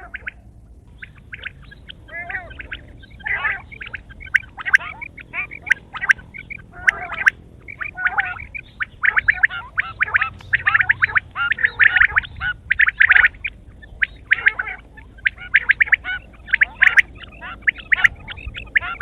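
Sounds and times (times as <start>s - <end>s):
quail chirping and chattering: 0.0s - 19.0s.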